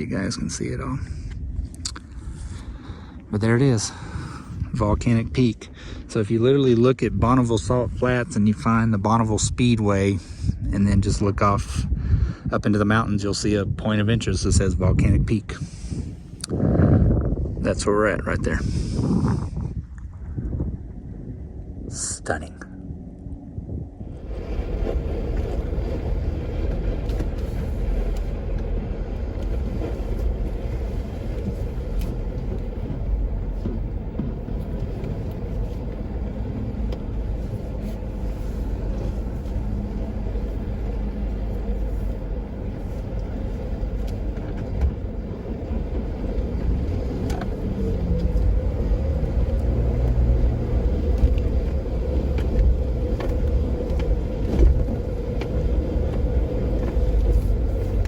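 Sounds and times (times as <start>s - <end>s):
engine and tyres rumbling: 0.0s - 58.0s.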